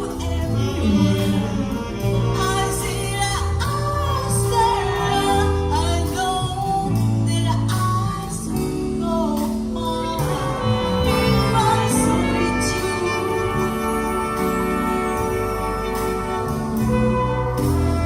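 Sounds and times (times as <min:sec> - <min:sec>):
jazz orchestra playing: 0:00.0 - 0:18.0.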